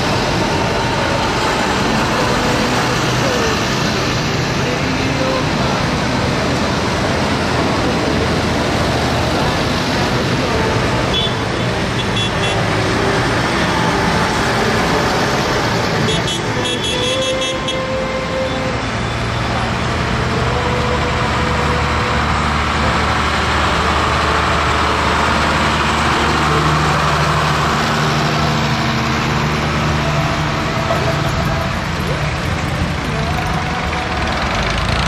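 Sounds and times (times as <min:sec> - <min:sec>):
tractor engines droning: 0:00.0 - 0:35.0.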